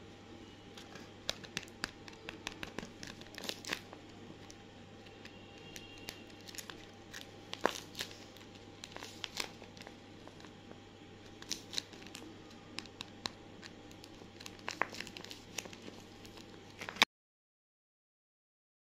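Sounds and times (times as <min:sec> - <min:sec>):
taped paper bag crinkling: 0:00.8 - 0:17.1.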